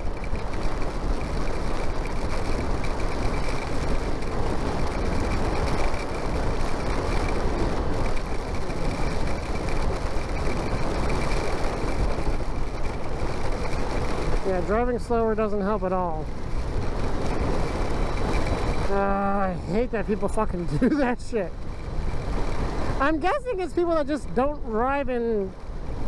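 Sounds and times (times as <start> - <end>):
motorcycle wind and road noise: 0.0 - 26.0.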